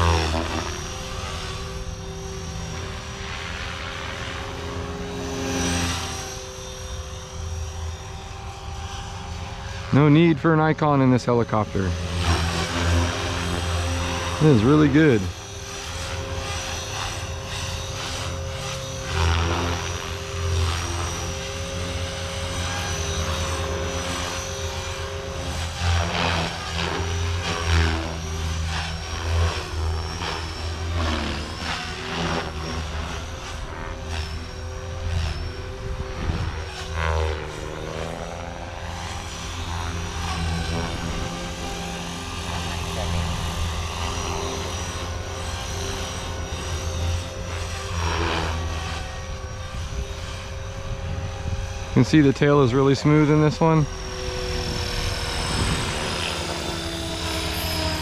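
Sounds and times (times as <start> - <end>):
rc helicopter motor and rotor whine: 0.0 - 58.0.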